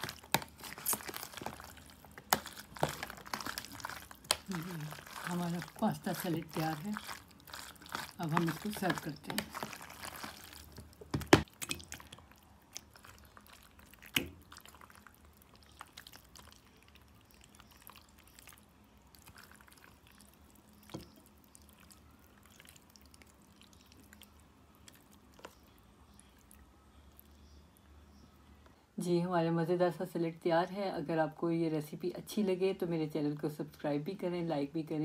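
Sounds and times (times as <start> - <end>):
soft wet stirring sounds: 0.0 - 28.8.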